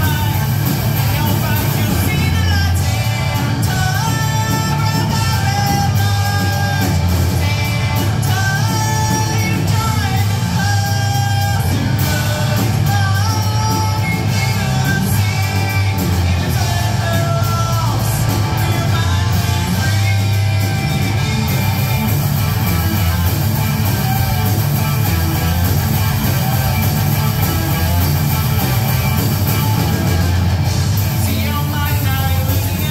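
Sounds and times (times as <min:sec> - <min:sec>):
bass guitar: 0:00.0 - 0:32.9
drums: 0:00.0 - 0:32.9
electric guitars: 0:00.0 - 0:32.9.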